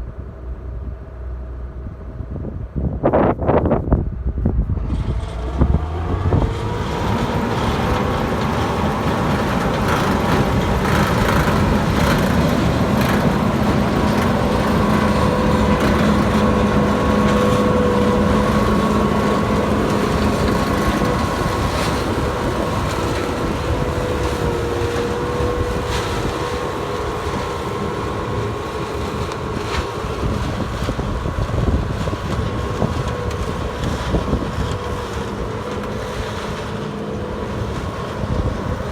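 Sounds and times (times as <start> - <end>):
farm machinery engine rumble: 0.0 - 38.9.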